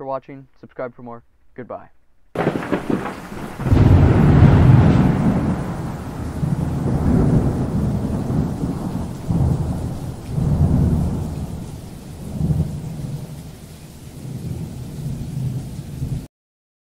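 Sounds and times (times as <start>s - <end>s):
steady rain: 2.4s - 16.3s
thunder rumbling: 2.4s - 16.3s.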